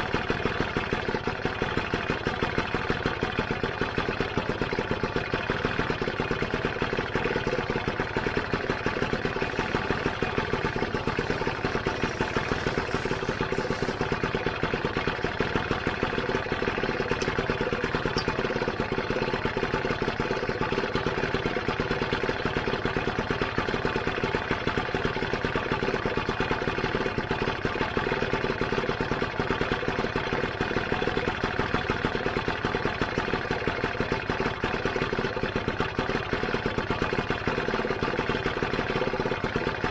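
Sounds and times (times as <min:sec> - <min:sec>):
engine kick start: 0:00.0 - 0:39.9
scooter engine idling: 0:00.0 - 0:39.9.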